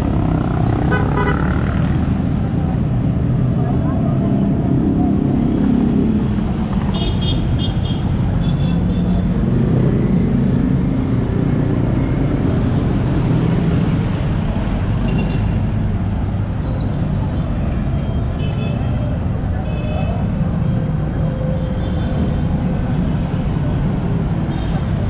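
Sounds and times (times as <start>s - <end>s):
vehicle engines rumbling: 0.0s - 25.0s.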